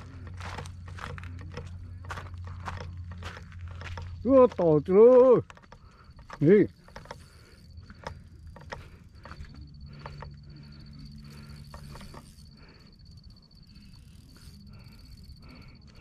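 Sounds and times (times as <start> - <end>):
low background rumble: 0.0 - 6.4, 7.2 - 16.0
cricket trilling: 0.0 - 16.0
faint low hum: 0.0 - 16.0.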